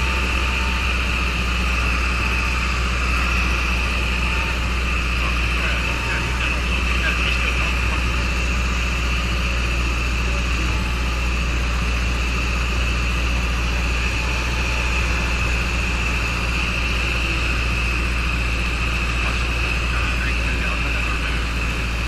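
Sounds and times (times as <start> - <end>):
high engine whine: 0.0 - 22.0
propeller aircraft engine drone: 0.0 - 22.0.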